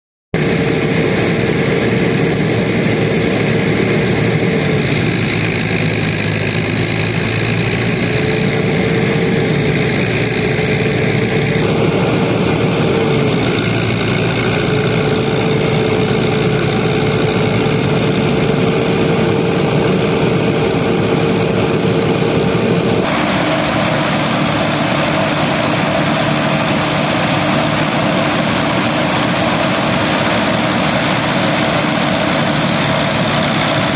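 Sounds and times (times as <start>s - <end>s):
high machine whine: 0.4s - 33.9s
tractor diesel engine running: 0.4s - 33.9s.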